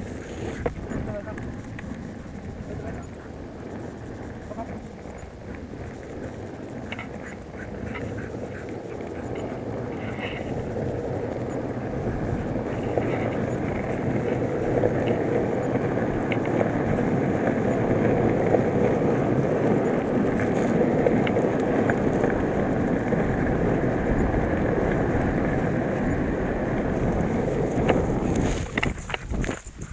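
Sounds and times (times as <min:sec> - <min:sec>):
longboard wheels rolling on asphalt: 0:00.0 - 0:29.9.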